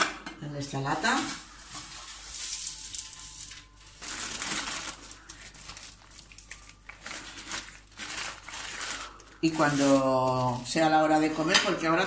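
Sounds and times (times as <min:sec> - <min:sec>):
baking paper crinkling: 0:00.9 - 0:12.0.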